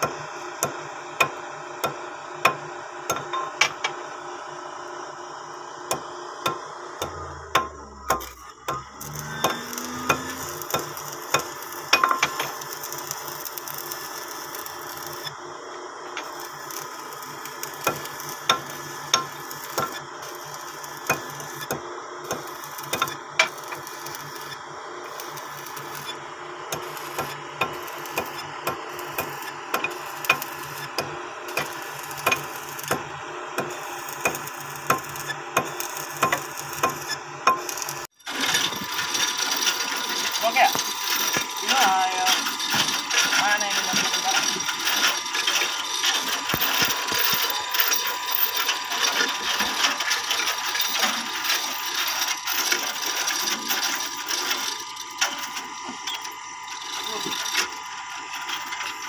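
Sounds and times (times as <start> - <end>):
electric arc welding crackle: 7.0 - 59.0.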